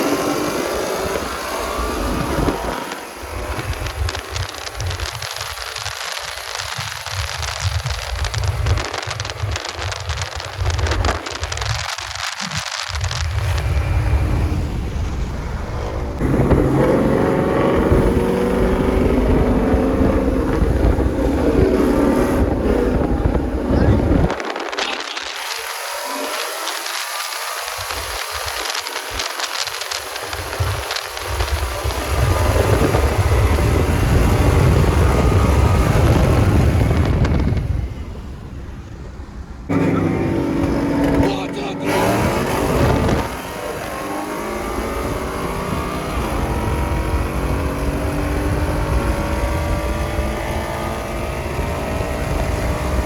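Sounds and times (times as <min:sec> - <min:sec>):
car engine accelerating: 0:00.0 - 0:53.0
wind rumble: 0:00.0 - 0:53.0.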